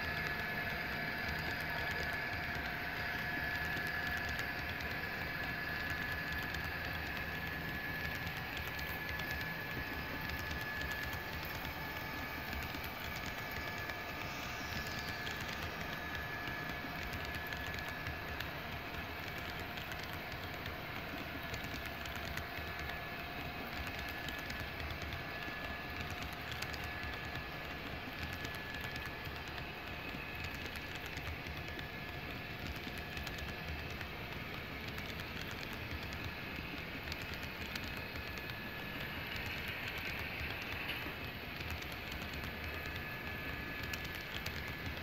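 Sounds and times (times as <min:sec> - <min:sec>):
faint high whine: 0:00.0 - 0:45.0
model train wheels rumbling on rails: 0:00.0 - 0:45.0.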